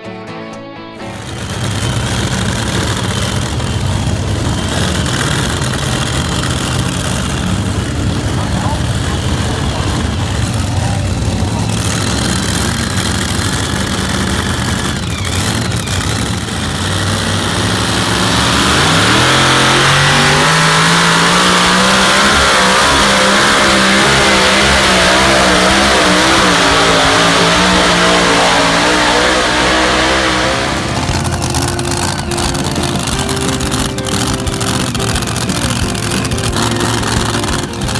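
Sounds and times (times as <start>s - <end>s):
vehicle engine revving: 1.0s - 37.9s.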